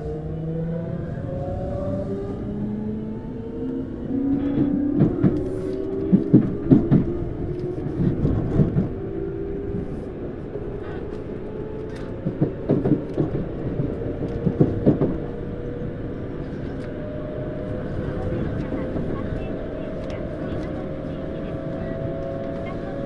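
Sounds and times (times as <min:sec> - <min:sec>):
electric train rumble: 0:00.0 - 0:23.0.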